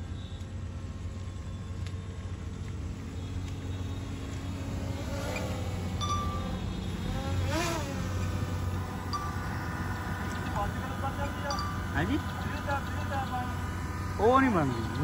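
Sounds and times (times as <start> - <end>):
drone propellers buzzing: 2.3 - 15.0.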